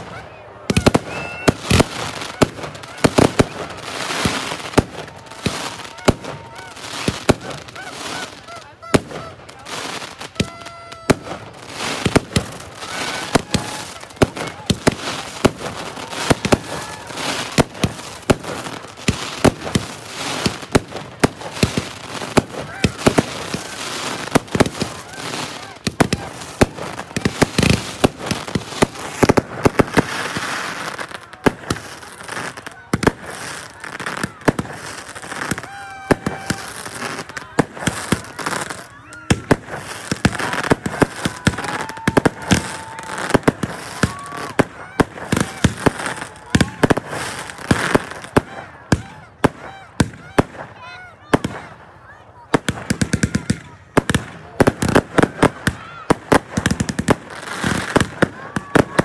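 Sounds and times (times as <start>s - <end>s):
fireworks whistling: 0.0s - 50.7s
fireworks bangs: 0.0s - 59.0s
fireworks crackling: 0.0s - 59.0s.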